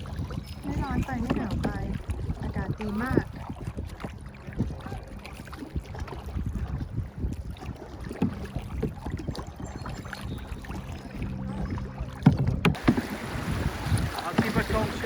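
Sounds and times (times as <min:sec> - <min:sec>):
water sounds of paddled canoe: 0:00.0 - 0:15.0
wind rumbling on microphone: 0:00.0 - 0:15.0.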